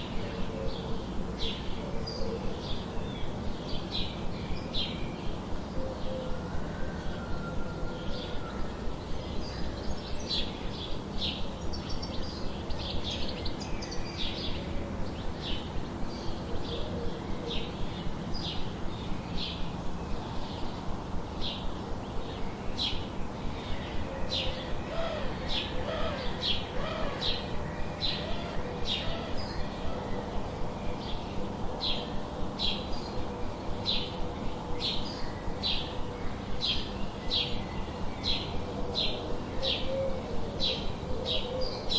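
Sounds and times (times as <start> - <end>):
steady background hiss: 0.0 - 41.9.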